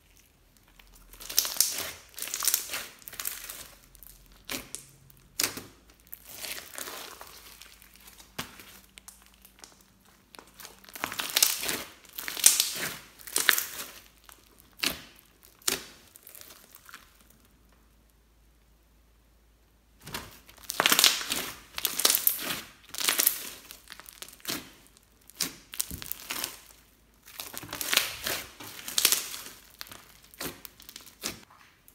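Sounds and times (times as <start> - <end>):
slime squelching and crackling: 0.0 - 18.1, 20.0 - 31.9.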